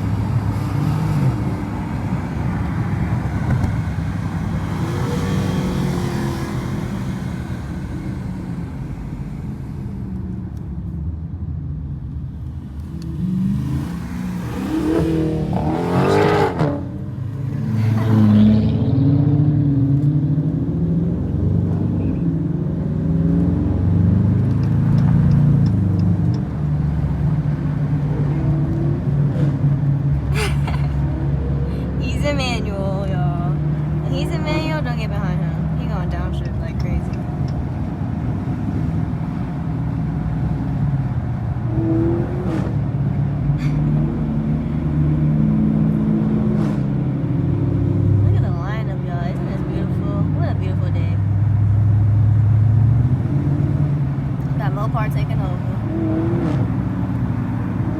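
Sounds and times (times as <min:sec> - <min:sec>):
car engine accelerating: 0:00.0 - 0:10.6, 0:12.4 - 0:57.9.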